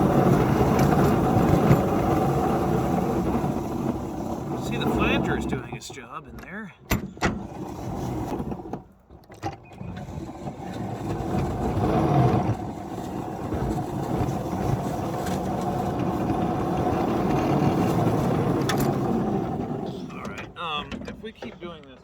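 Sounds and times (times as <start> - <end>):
small locomotive drive straining: 0.0 - 22.0.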